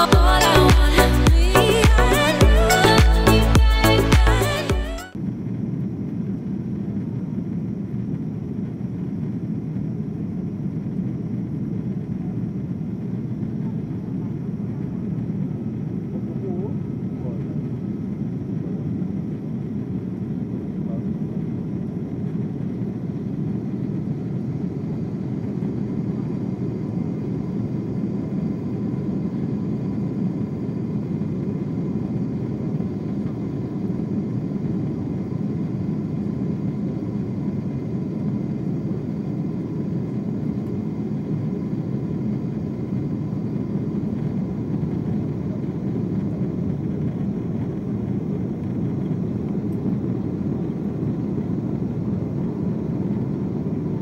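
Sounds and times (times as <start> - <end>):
faint steady whine: 0.0 - 54.0
aircraft cabin roar: 5.2 - 54.0.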